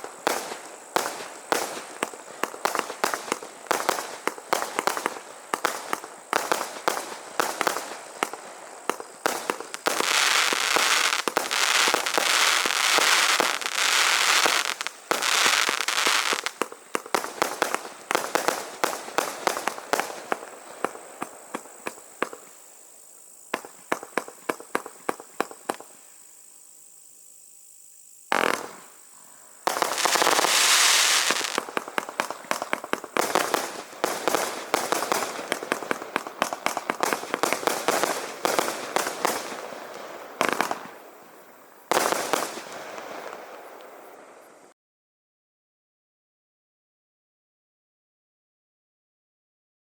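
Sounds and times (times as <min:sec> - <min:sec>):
firework cracks and crackling: 0:00.0 - 0:26.7, 0:28.2 - 0:44.2.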